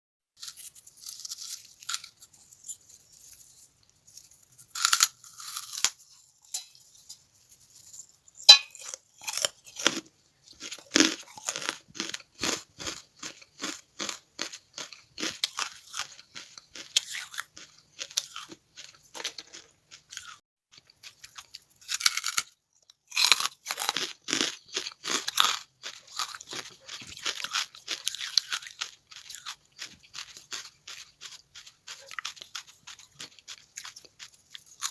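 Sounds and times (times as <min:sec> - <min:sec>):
charcoal being crunched and chewed: 0:00.4 - 0:06.8, 0:07.6 - 0:34.9.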